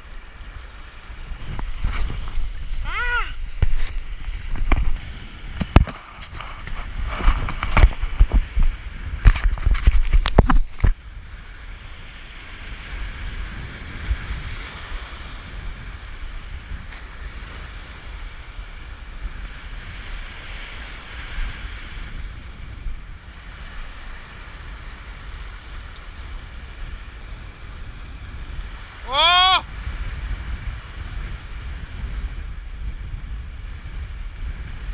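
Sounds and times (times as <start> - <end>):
sea surf washing: 0.0 - 34.9
wind buffeting microphone: 0.0 - 34.9.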